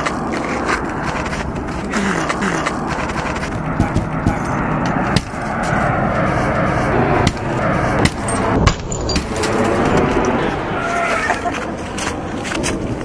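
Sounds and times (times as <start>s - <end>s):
steady rough noise: 0.0s - 13.0s.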